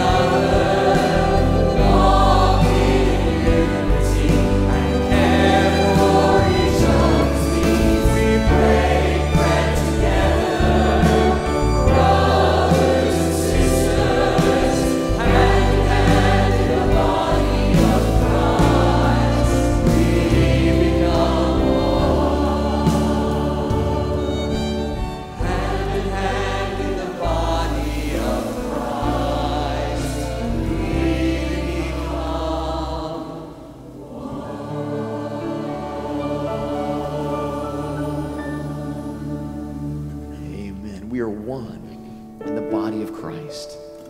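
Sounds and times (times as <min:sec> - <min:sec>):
church choir singing: 0:00.0 - 0:44.0
instrumental accompaniment: 0:00.0 - 0:44.0.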